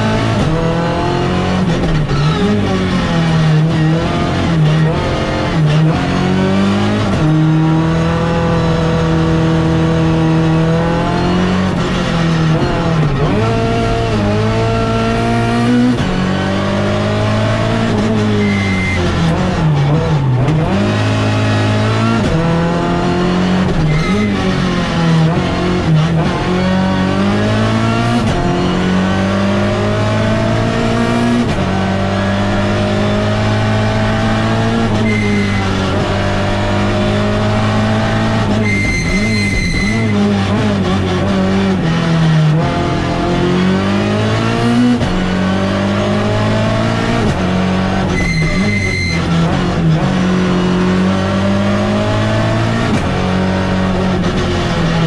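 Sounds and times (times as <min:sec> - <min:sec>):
car engine revving from inside cabin: 0:00.0 - 0:55.0.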